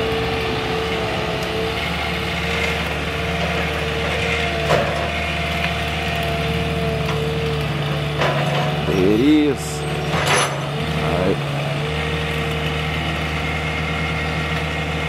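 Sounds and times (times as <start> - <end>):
land-clearing machine engine: 0.0 - 15.0.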